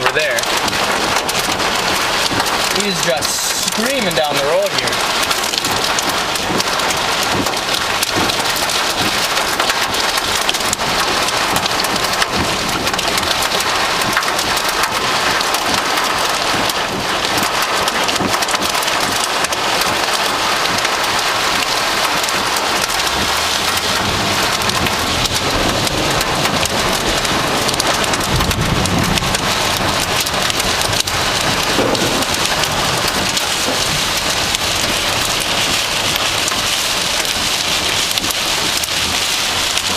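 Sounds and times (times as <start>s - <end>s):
heavy rain pelting down: 0.0s - 39.9s
low thunder rumble: 5.0s - 39.9s.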